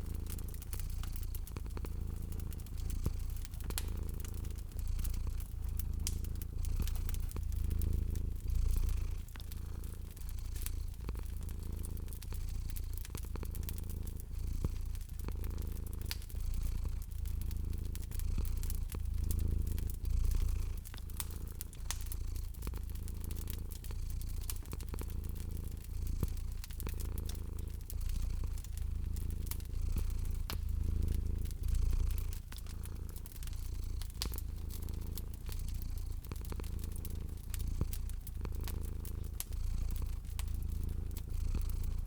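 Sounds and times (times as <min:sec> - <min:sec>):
cat purring: 0:00.0 - 0:42.0
wood fire crackling: 0:00.0 - 0:42.0.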